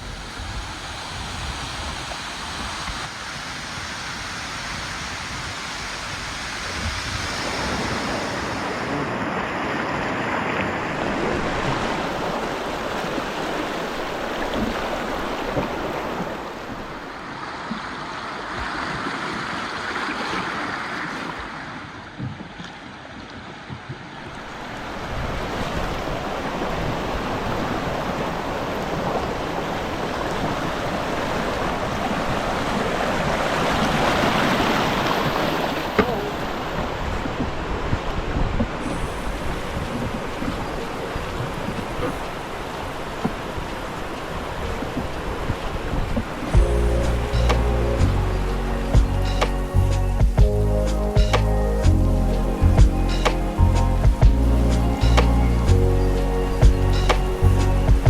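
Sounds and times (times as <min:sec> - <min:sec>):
wind on the microphone: 0:00.0 - 0:19.6, 0:22.0 - 0:58.0
rushing water: 0:00.0 - 0:58.0.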